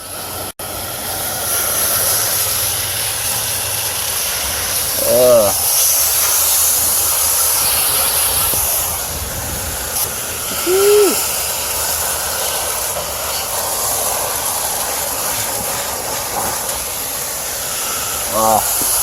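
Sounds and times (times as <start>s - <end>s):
steady hissing noise: 0.0s - 19.0s.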